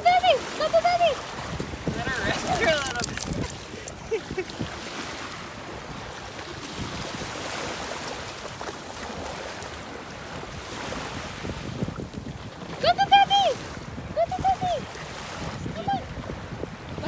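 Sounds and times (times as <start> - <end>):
small waves lapping on shore: 0.0 - 17.0.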